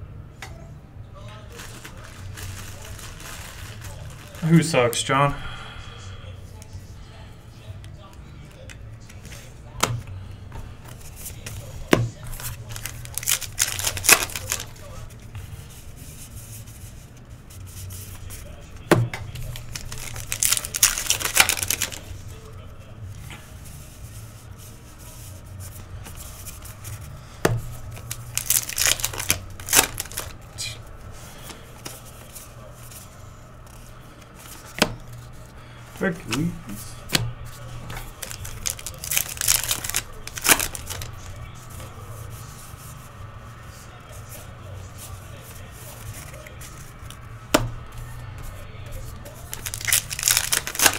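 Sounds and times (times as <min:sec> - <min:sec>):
trading cards rustling: 0:01.2 - 0:05.5, 0:07.5 - 0:50.9
foil wrapper crinkling and tearing: 0:01.3 - 0:05.2, 0:10.9 - 0:17.0, 0:17.6 - 0:42.8, 0:45.0 - 0:50.9.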